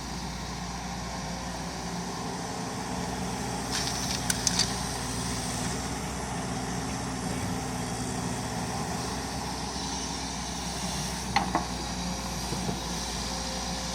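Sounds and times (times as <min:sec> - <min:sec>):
excavator diesel engine running: 0:00.0 - 0:13.9.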